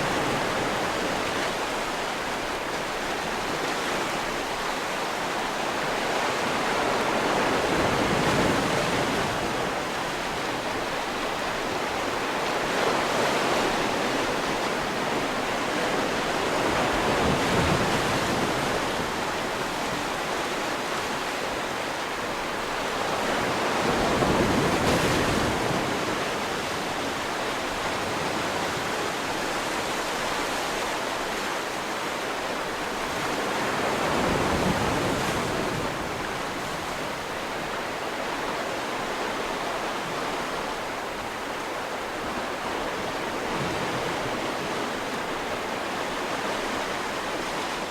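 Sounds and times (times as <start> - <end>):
sea waves breaking on shore: 0.0 - 47.9
wind: 0.0 - 47.9.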